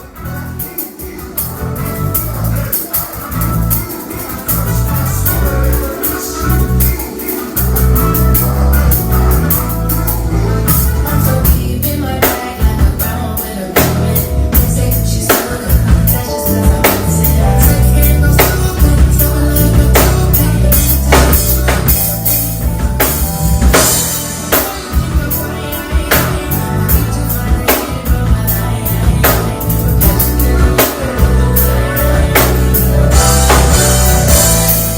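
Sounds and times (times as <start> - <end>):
live band playing: 0.0 - 34.9.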